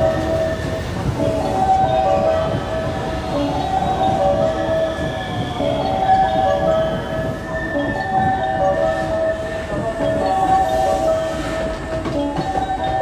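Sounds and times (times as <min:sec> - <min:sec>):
electric train running: 0:00.0 - 0:13.0.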